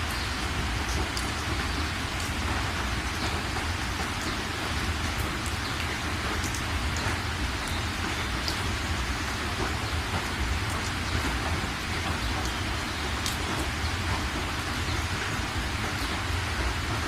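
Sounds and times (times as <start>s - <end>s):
raindrops ticking close by: 0.0s - 17.0s
rainfall hiss: 0.0s - 17.0s.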